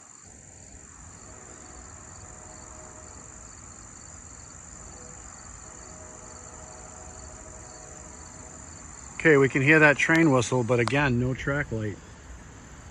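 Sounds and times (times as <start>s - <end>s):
distant train horn: 0.0s - 10.7s
insects chirring: 0.0s - 12.9s.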